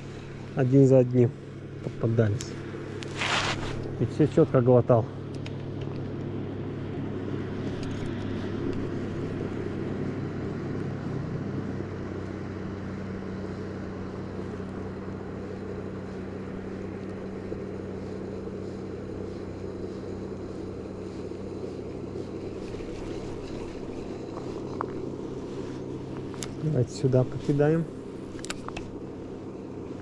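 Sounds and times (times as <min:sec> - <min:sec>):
distant motor engine humming: 0:00.0 - 0:30.0.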